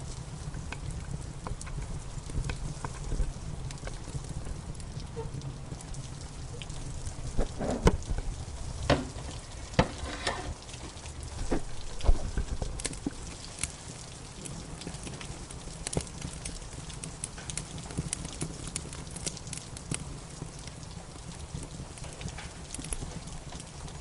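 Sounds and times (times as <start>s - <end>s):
rain hissing: 0.0s - 24.0s
wood fire crackling and popping: 0.0s - 24.0s.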